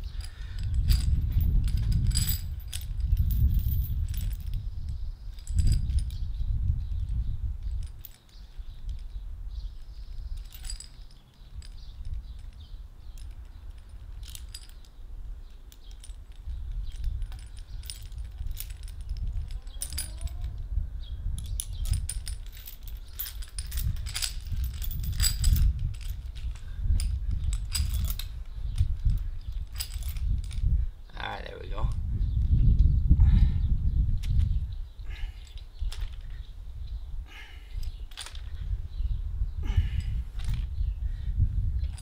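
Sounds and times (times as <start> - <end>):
chain links clinking and rattling: 0.0 - 32.9, 34.0 - 42.0
steady low rumble: 0.0 - 42.0.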